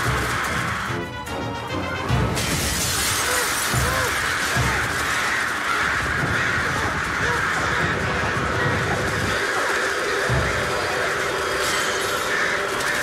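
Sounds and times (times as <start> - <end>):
crows cawing: 0.0 - 1.1, 2.6 - 13.0.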